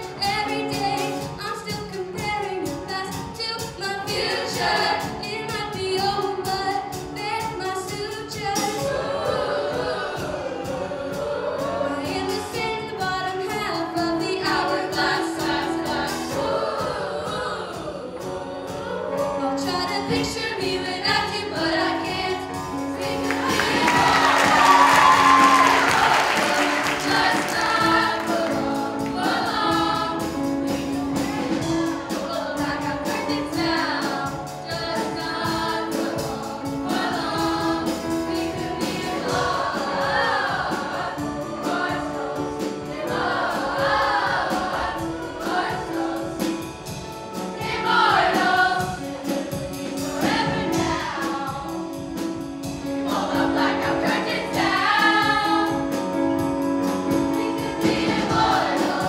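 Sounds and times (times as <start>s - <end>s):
choir singing a pop song: 0.0s - 59.0s
drums: 0.0s - 59.0s
piano: 0.0s - 59.0s.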